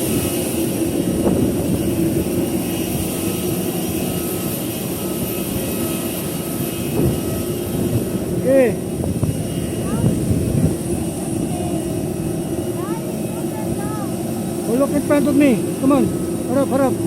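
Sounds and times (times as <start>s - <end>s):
jet airliner rushing hum: 0.0s - 17.0s.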